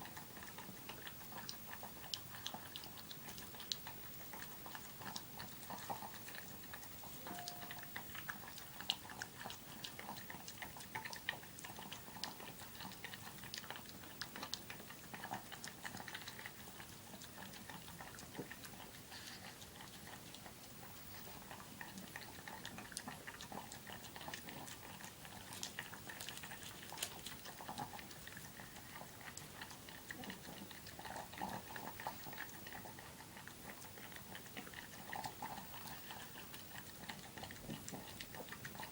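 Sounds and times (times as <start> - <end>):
dog chewing and licking: 0.0 - 38.9.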